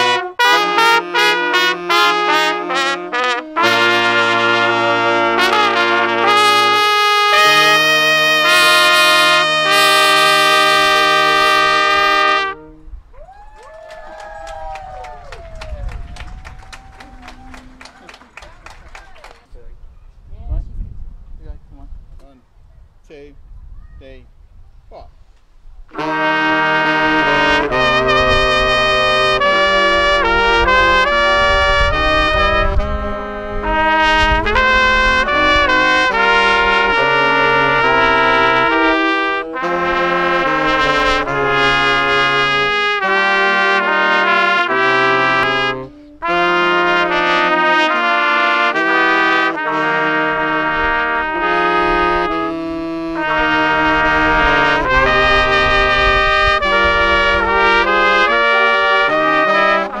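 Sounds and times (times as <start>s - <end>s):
saxophones and trumpets playing: 0.0s - 13.0s, 14.7s - 19.3s, 25.9s - 60.0s.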